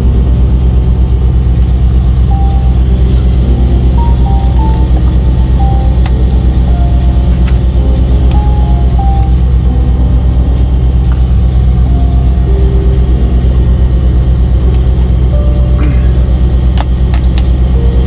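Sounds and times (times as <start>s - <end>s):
diesel truck engine idling: 0.0s - 18.0s
faint music: 0.0s - 18.0s.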